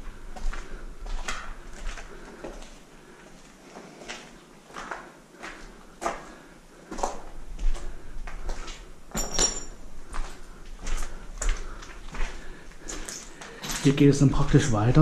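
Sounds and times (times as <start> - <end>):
footsteps crunching on gritty floor: 0.0 - 15.0.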